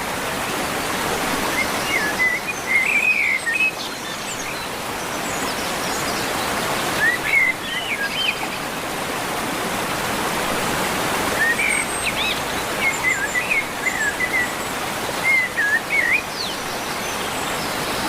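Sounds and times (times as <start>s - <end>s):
running water: 0.0s - 18.0s
songbird singing: 0.4s - 8.7s, 11.3s - 18.0s.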